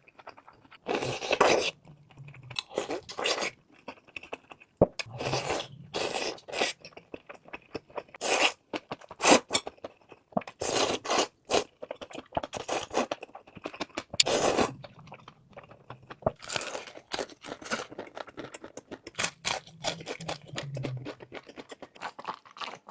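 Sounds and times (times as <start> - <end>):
crunchy chewing of food: 0.0 - 22.9.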